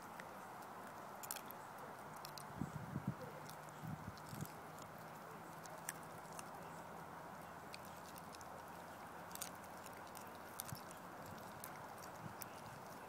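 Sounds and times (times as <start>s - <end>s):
low steady hum: 0.0s - 13.0s
puppy chewing on bone: 0.0s - 13.0s.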